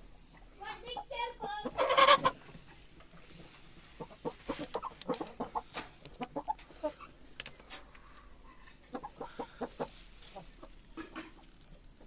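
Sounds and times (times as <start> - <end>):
chicken clucking: 0.3 - 11.5.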